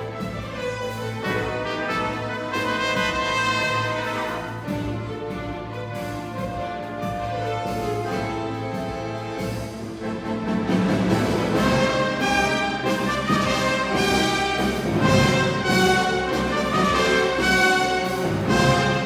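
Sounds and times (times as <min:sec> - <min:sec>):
orchestra playing a tango: 0:00.0 - 0:19.0.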